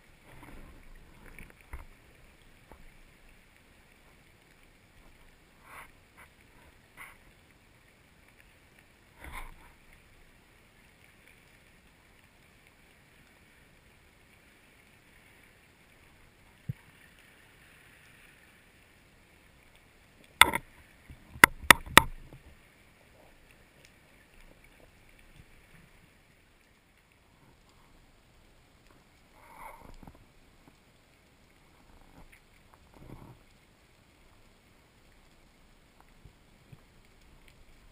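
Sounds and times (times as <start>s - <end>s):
faint underwater hiss: 0.0s - 37.9s.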